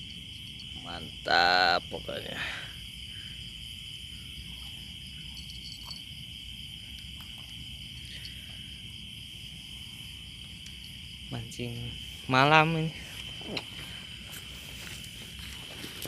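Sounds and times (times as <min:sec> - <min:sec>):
night insects buzzing: 0:00.0 - 0:16.0.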